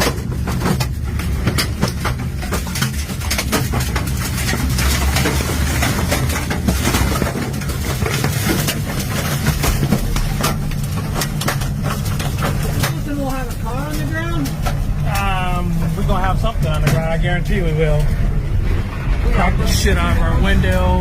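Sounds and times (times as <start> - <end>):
debris knocking on car body: 0.0 - 18.2
strong wind buffeting a vehicle: 0.0 - 21.0.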